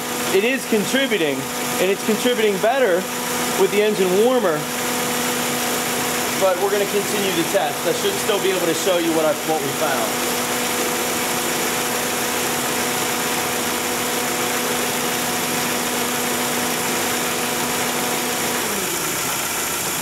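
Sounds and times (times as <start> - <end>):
car engine idling with misfire: 0.0 - 20.0
radiator cooling fan whine: 0.0 - 20.0.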